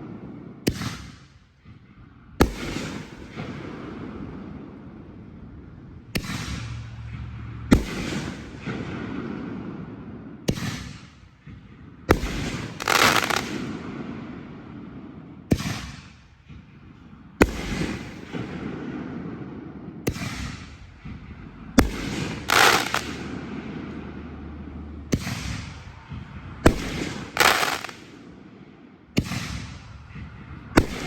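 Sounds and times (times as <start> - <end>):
firework shells booming: 0.0 - 24.5, 25.1 - 31.0
rumbling echo: 1.6 - 31.0.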